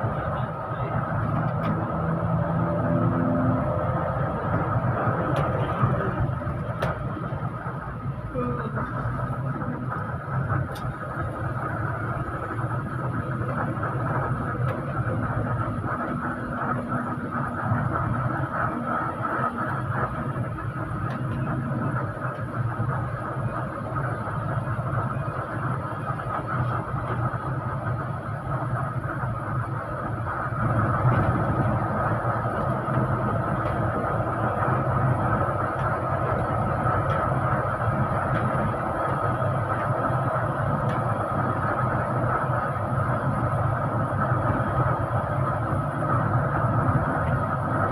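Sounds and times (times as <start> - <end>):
bus engine hum: 0.0 - 47.9
road noise: 0.0 - 47.9
steady whine: 0.0 - 47.9.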